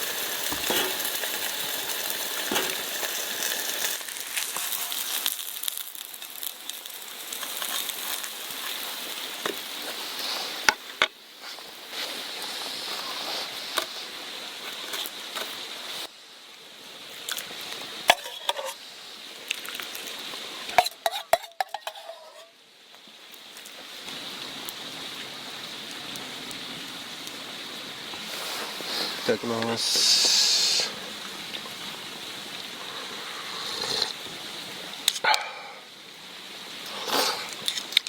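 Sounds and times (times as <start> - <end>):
food sizzling in a frying pan: 0.0 - 16.1, 16.8 - 26.2, 26.9 - 38.0.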